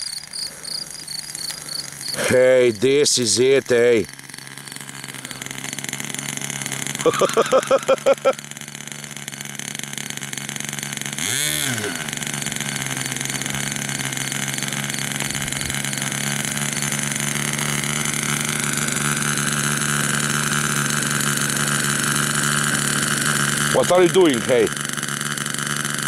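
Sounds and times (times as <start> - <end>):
model aircraft engine running: 0.0 - 26.0.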